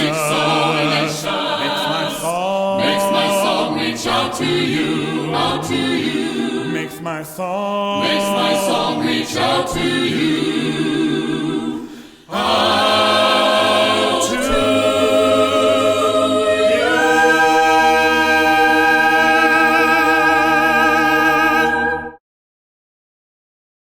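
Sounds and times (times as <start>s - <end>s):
choir singing unaccompanied: 0.0s - 22.2s.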